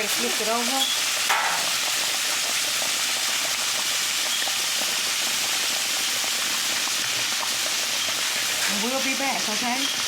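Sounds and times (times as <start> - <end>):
pork chops sizzling in oil: 0.0 - 10.0.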